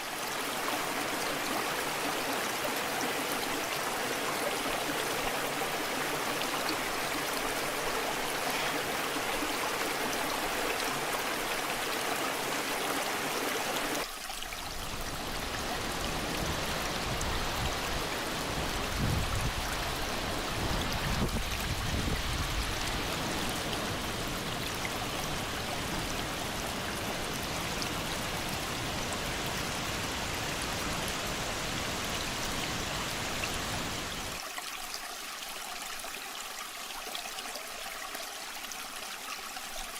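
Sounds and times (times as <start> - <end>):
waterfall rushing and splashing: 0.0 - 34.9.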